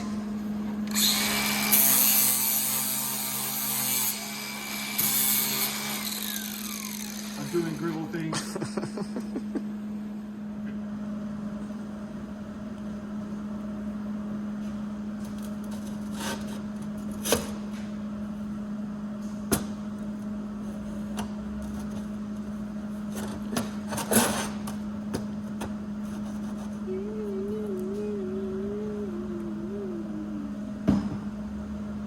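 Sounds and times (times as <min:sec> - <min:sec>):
steady machine hum: 0:00.0 - 0:32.0.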